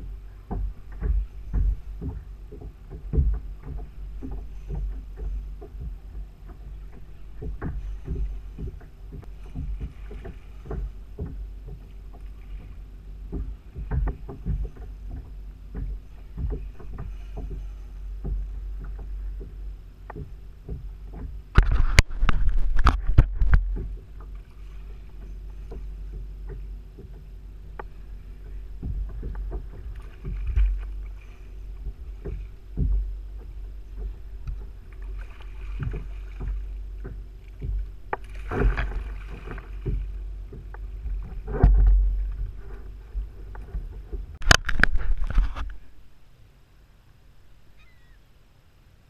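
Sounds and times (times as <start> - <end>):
low steady rumble: 0.0 - 49.0
knocking on a kayak: 0.5 - 24.4, 25.2 - 31.1, 31.8 - 42.6.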